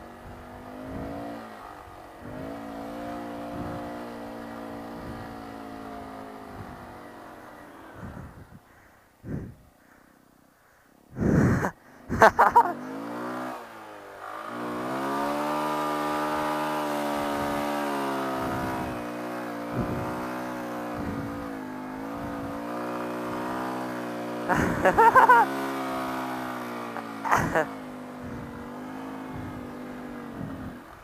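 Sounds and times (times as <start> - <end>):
motorcycle engine revving: 0.0 - 10.1, 11.2 - 31.0.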